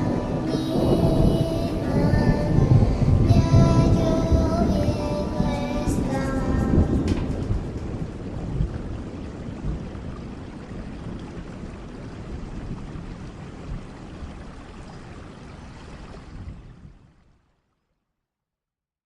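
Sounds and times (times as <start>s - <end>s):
rain pattering: 0.0s - 16.5s.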